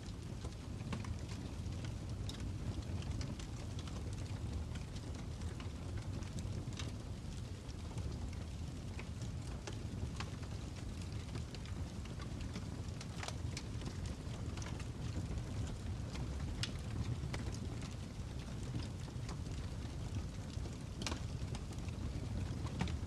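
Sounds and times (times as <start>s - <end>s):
fire crackling and popping: 0.0s - 23.0s
fire low rumble: 0.0s - 23.0s.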